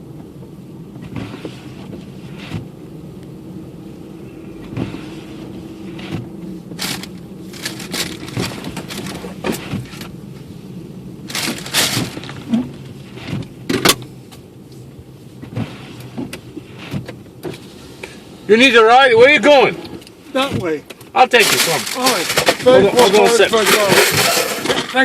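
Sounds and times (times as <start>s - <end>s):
car engine and road hum: 0.0s - 25.0s
short scraping and rushing noises: 1.0s - 2.8s, 4.5s - 10.6s, 11.2s - 14.1s, 14.7s - 18.3s, 19.0s - 25.0s.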